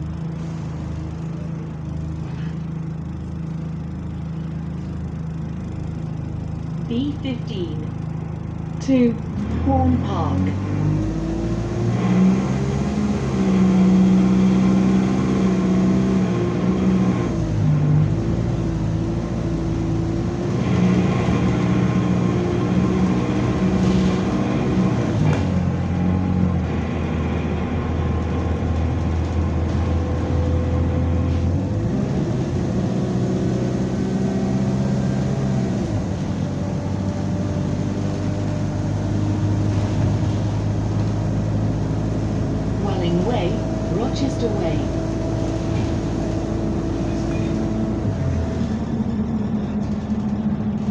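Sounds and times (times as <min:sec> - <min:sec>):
diesel bus engine under load: 0:00.0 - 0:50.9.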